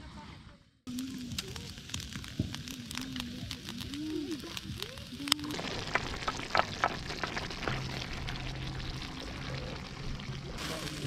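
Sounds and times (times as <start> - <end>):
charcoal crackling: 0.9 - 11.0
chicken sizzling on grill: 0.9 - 11.0
stew sizzling in a pan: 0.9 - 11.0.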